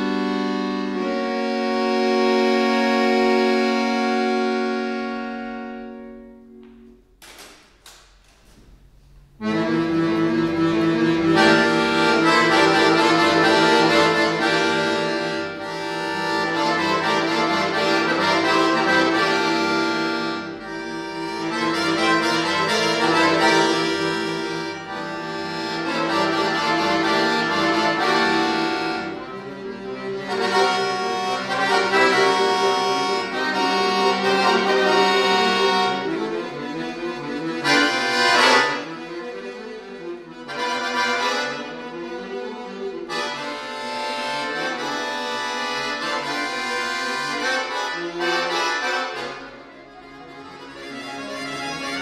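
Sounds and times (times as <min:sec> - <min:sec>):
accordion playing: 0:00.0 - 0:07.1, 0:09.0 - 0:52.0.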